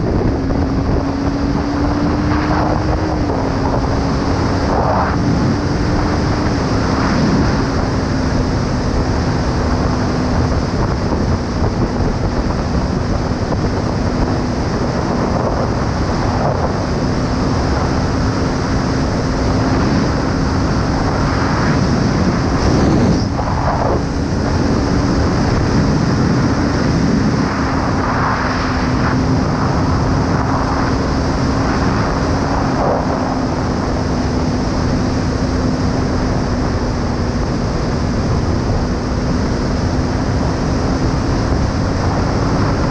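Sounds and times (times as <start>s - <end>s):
wind on microphone: 0.0s - 42.9s.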